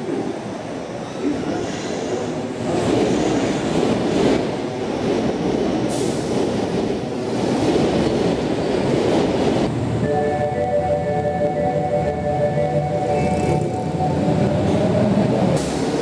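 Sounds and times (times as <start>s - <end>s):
subway train arriving: 0.0s - 16.0s.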